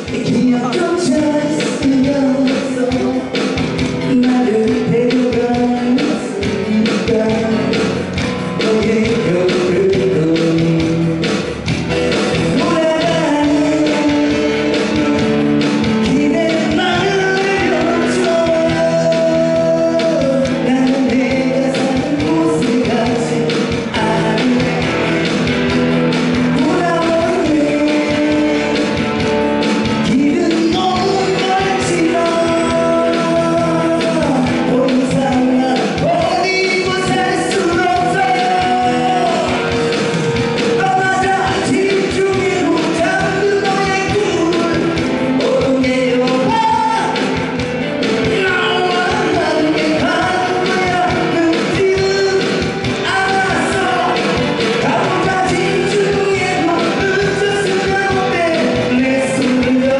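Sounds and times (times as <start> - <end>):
backing music with steady beat: 0.0 - 59.9
man singing into microphone: 0.0 - 59.9.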